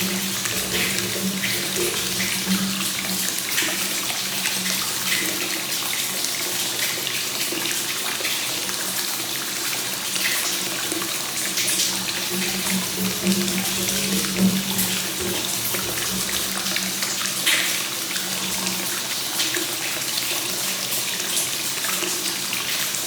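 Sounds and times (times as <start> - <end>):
water pouring into a bath: 0.0 - 23.0.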